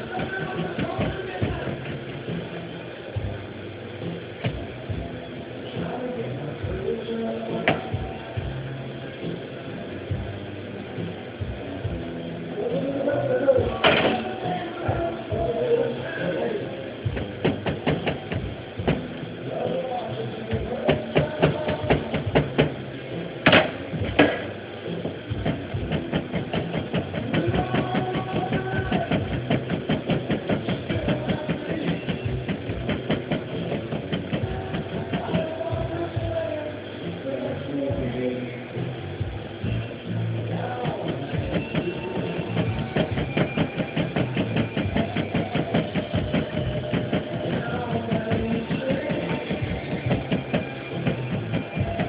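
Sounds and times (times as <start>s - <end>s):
steady machine hum: 0.0s - 52.0s.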